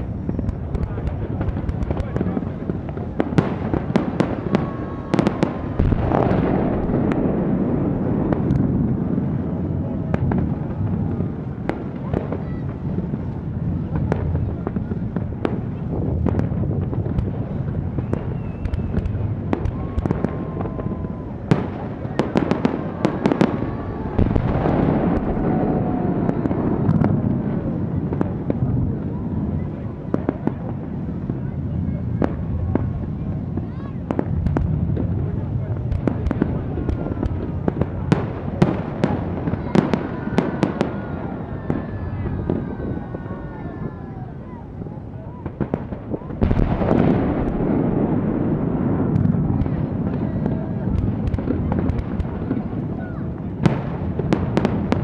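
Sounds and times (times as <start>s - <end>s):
fireworks bangs and crackles: 0.0s - 55.0s
low rumble of bursts: 0.0s - 55.0s.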